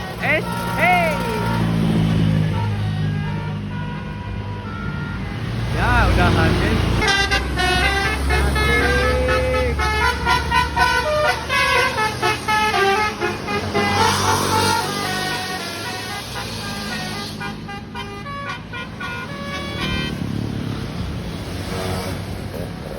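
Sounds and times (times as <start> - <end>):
bus musical horn tune: 0.0 - 20.4
bus low rumble: 0.0 - 22.9.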